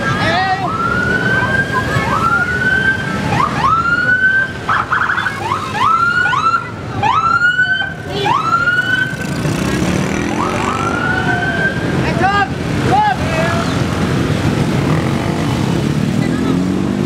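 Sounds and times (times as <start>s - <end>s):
police sirens whooping: 0.0s - 14.2s.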